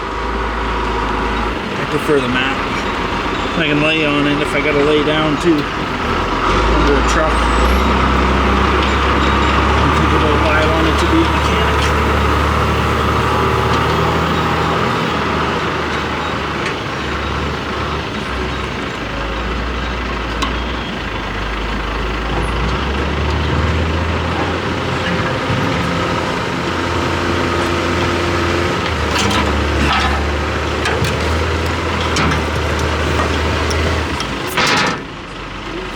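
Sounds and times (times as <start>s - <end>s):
large engine idling: 0.0s - 35.9s.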